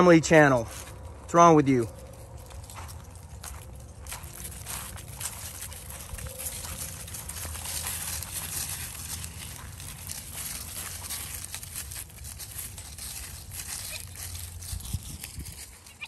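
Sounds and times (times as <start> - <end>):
low steady rumble: 0.0 - 15.8
dry leaves crunching: 0.0 - 16.0.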